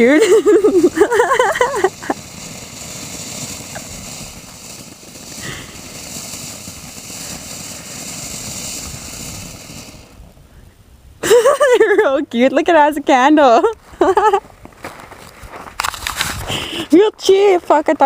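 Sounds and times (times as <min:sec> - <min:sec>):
firework fountain hissing: 0:00.0 - 0:14.6, 0:15.7 - 0:18.0.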